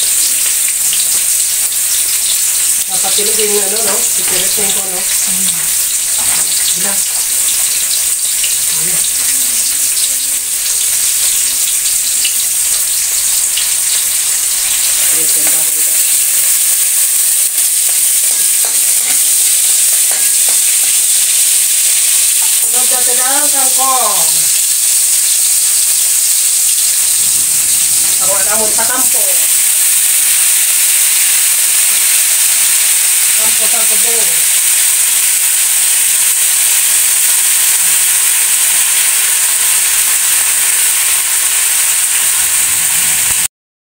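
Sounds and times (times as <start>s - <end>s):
food sizzling in hot oil: 0.0s - 43.5s.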